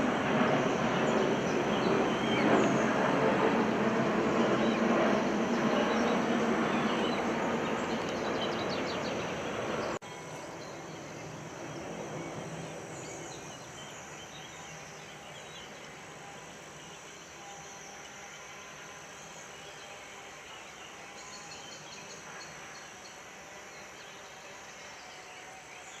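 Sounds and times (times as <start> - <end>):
quiet outdoor ambience: 0.0 - 26.0.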